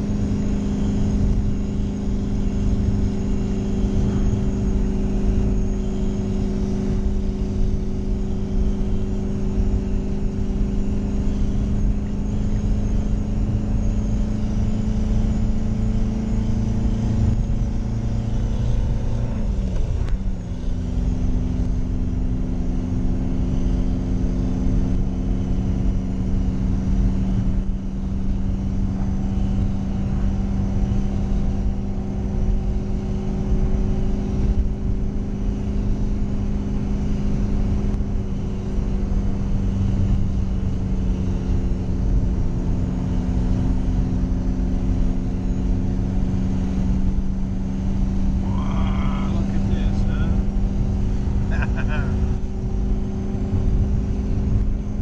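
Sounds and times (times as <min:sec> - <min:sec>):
engine droning inside cab: 0:00.0 - 0:55.0.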